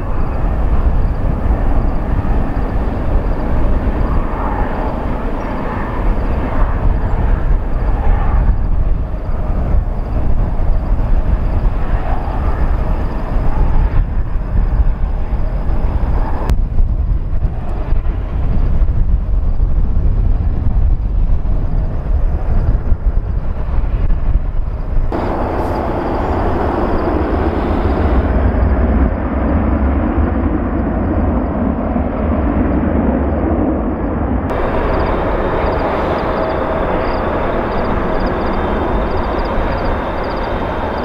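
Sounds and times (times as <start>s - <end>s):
jet airliner taking off: 0.0s - 19.0s, 21.6s - 41.0s.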